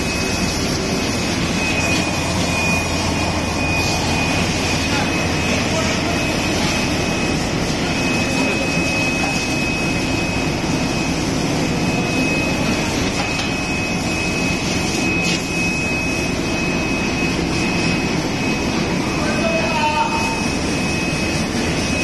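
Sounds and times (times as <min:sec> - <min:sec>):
machine mechanical whir: 0:00.0 - 0:19.1
thin high-pitched whine: 0:00.0 - 0:22.0.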